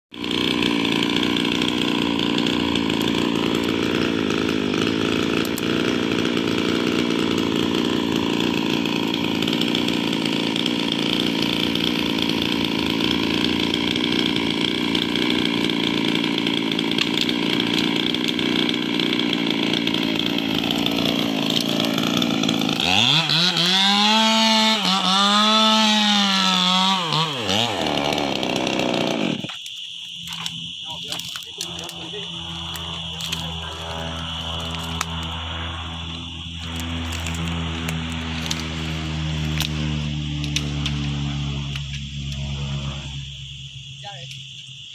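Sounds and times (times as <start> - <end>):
chainsaw running: 0.1 - 44.9.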